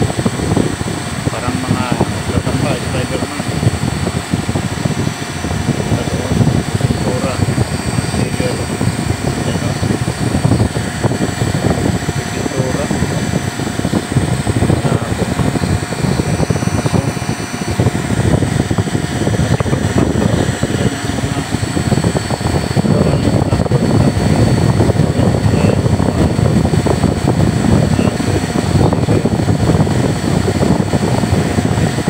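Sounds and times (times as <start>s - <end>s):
high-pitched whines: 0.0s - 32.0s
machinery rumble: 0.0s - 32.0s.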